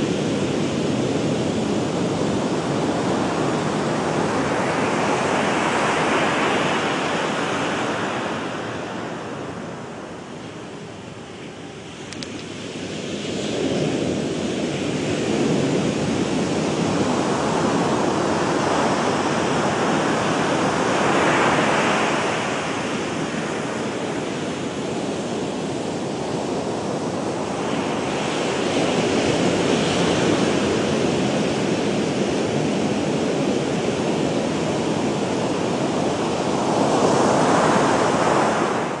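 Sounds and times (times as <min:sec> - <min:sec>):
ocean waves breaking: 0:00.0 - 0:39.0.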